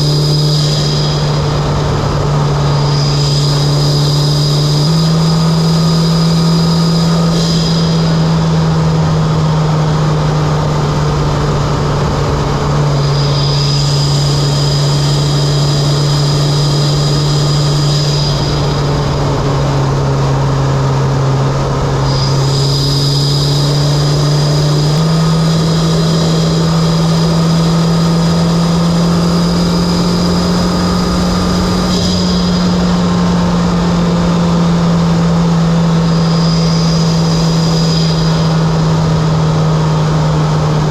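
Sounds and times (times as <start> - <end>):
car engine cruising drone: 0.0 - 40.9
high whine: 0.0 - 40.9.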